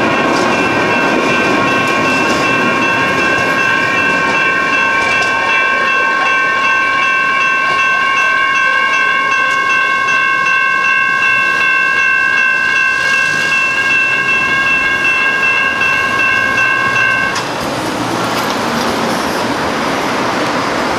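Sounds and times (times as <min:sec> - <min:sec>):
railroad crossing bell ringing: 0:00.0 - 0:18.4
road traffic: 0:00.0 - 0:20.9.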